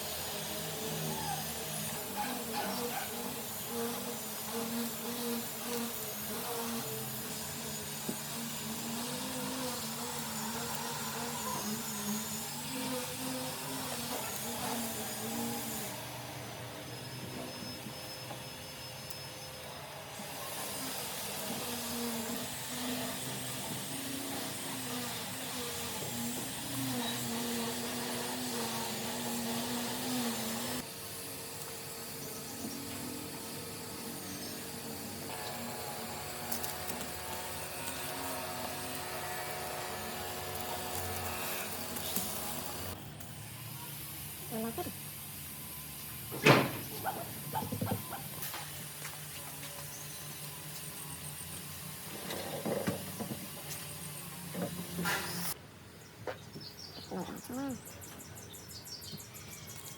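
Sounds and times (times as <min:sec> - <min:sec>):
power tool motor running: 0:00.0 - 0:55.6.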